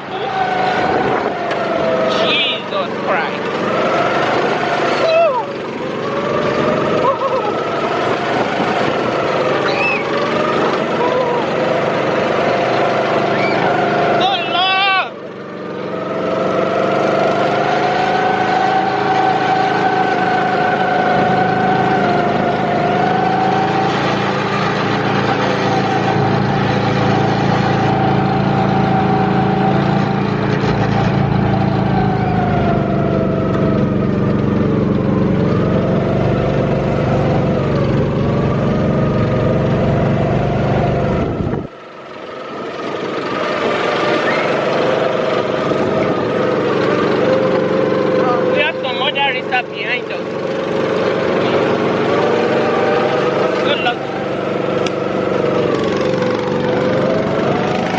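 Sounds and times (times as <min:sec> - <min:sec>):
go-kart engine running: 0:00.0 - 0:57.9.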